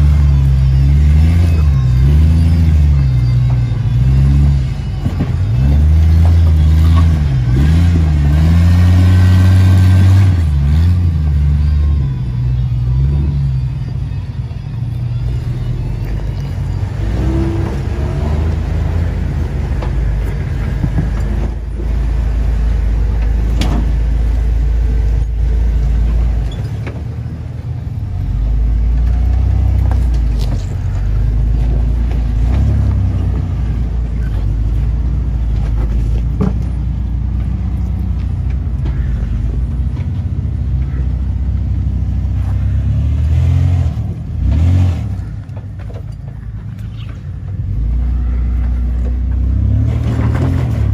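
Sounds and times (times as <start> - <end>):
truck engines revving: 0.0 - 50.9.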